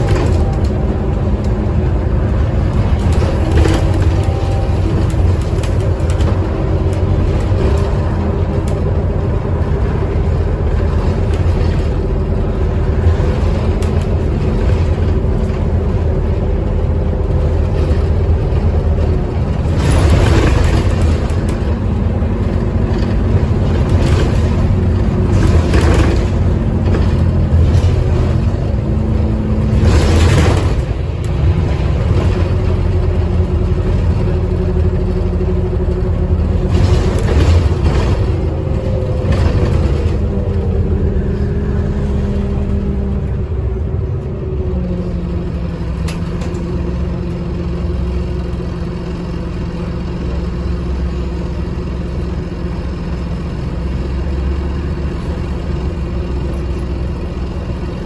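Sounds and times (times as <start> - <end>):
bus diesel engine droning: 0.0 - 58.0
passing traffic rushing: 0.0 - 58.0.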